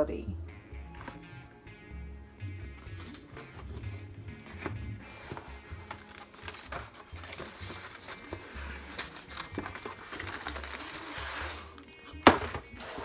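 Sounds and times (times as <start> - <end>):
cardboard packaging rustling: 0.9 - 1.2, 2.6 - 13.0.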